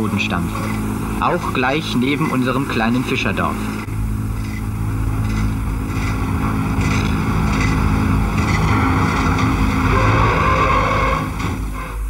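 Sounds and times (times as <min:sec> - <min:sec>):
constant rushing noise: 0:00.0 - 0:12.0
engine low hum: 0:00.0 - 0:12.0.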